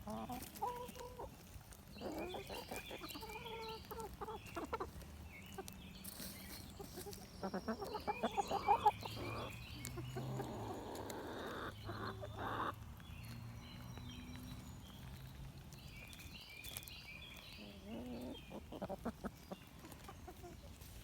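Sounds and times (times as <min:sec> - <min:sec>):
chickens clucking: 0:00.0 - 0:21.0
chickens pecking taps: 0:00.0 - 0:21.0.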